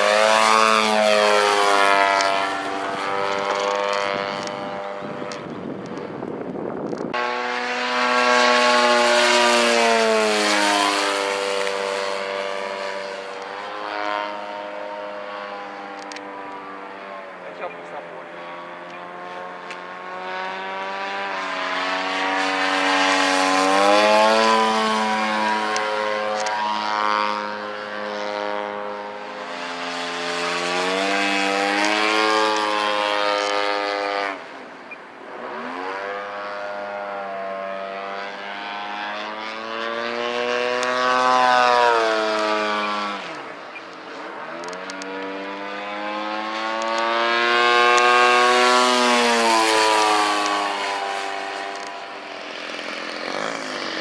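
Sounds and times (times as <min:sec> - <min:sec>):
model plane propeller droning: 0:00.0 - 0:54.0.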